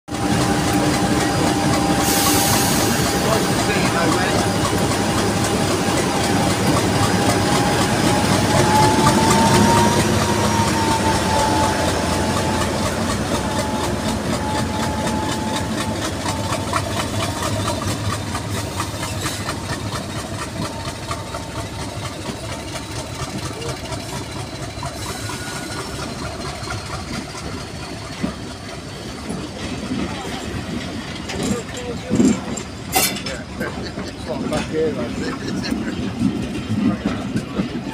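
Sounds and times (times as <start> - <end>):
diesel locomotive engine: 0.1 - 37.9
train wheels clicking on track: 0.1 - 37.9.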